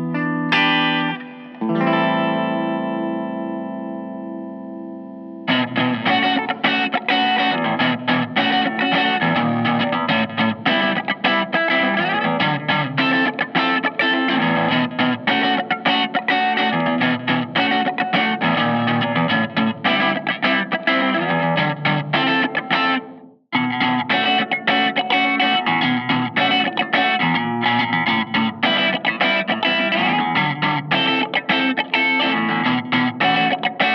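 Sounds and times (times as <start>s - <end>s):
electric guitar picked notes and chords: 0.0s - 33.9s.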